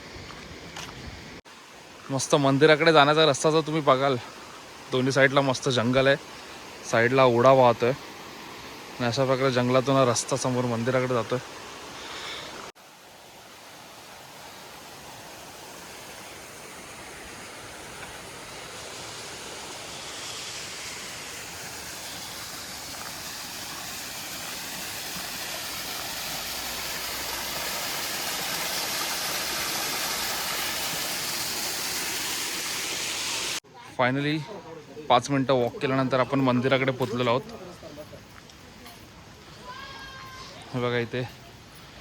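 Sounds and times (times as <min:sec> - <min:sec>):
stream water rushing: 0:00.0 - 0:33.6.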